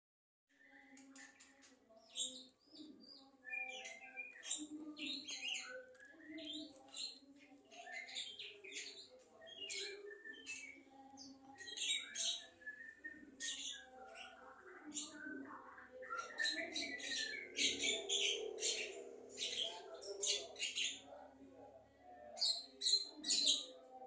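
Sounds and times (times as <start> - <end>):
songbird singing: 0.5 - 24.0.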